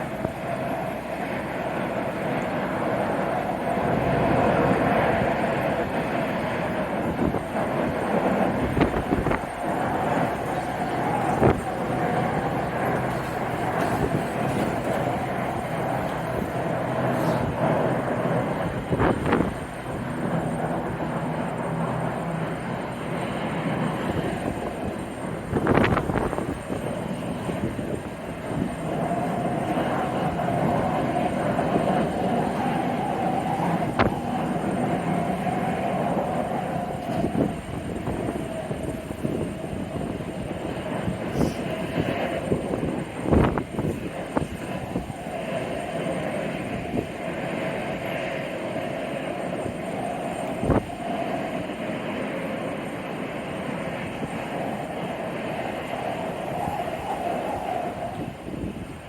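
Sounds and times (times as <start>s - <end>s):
jet engines running: 0.0s - 59.0s
wind buffeting microphone: 0.0s - 59.0s.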